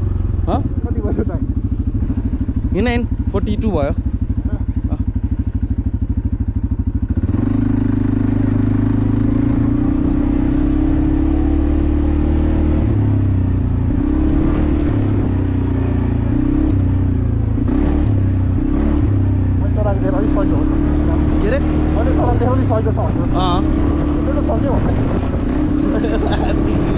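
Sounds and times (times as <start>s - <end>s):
atv engine running: 0.0s - 26.9s.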